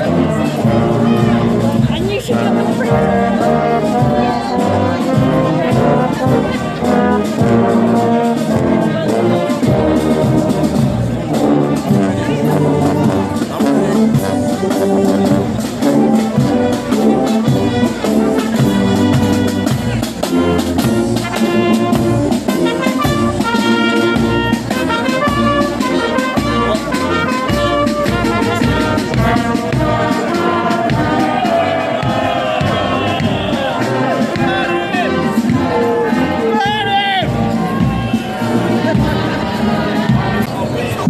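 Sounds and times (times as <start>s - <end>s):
marching brass band playing: 0.0s - 41.0s.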